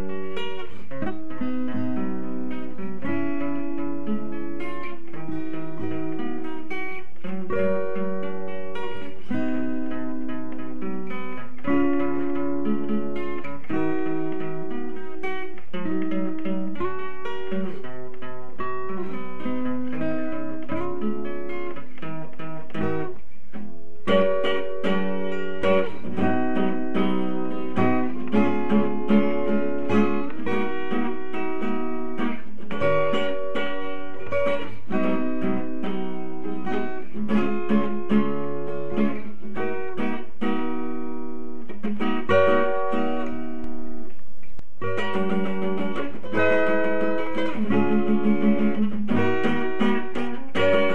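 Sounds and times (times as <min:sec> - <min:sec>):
guitar playing chords: 0:00.0 - 0:50.9.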